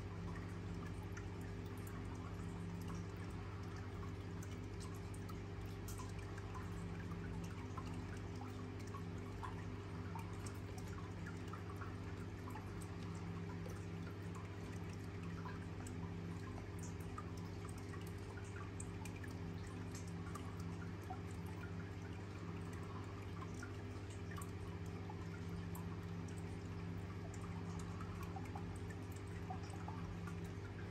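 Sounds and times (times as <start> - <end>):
drip-like ticks: 0.0 - 30.9.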